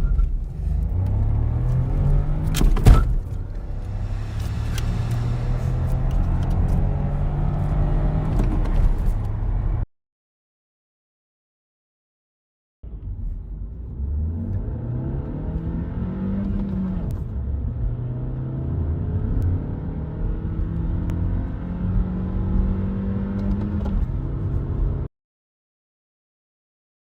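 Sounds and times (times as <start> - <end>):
car engine accelerating: 0.0 - 9.8, 12.9 - 25.1.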